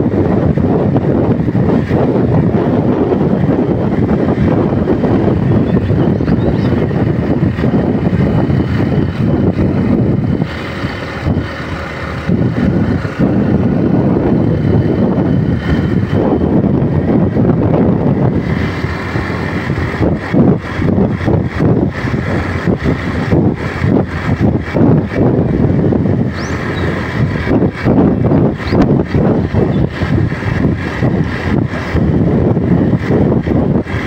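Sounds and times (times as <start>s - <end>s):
motorcycle engine: 0.0s - 34.0s
road noise: 0.0s - 34.0s
wind rushing over microphone: 0.0s - 34.0s.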